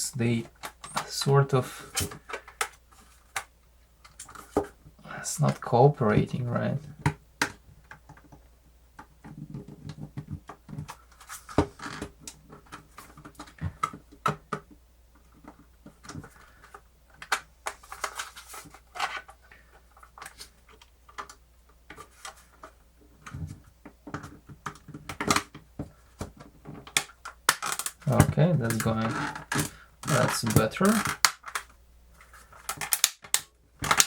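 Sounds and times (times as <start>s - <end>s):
plastic parts clicking and scraping: 0.2s - 4.8s, 5.4s - 34.0s.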